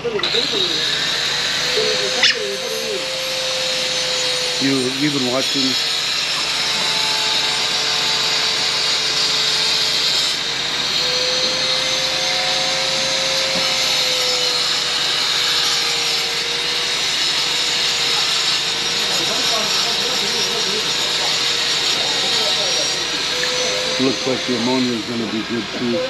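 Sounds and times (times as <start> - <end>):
mechanical motor drone: 0.0 - 26.0.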